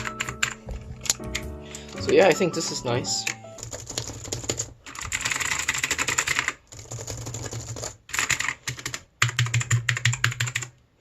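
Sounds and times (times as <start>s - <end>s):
clicky mechanical keyboard typing: 0.0s - 2.5s, 3.2s - 10.8s.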